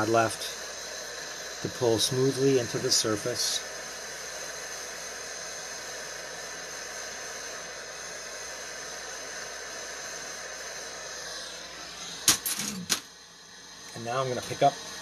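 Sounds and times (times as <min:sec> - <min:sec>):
torch hissing: 0:00.0 - 0:15.0.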